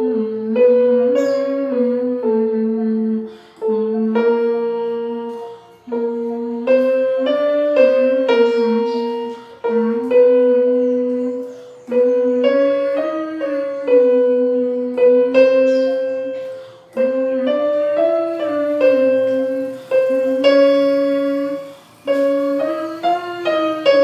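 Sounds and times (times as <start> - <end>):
electronic keyboard notes: 0.0 - 24.0.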